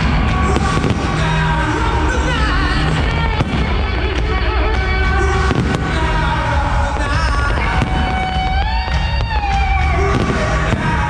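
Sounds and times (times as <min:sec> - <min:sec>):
fireworks bursting: 0:00.0 - 0:11.0
loud music playing: 0:00.0 - 0:11.0.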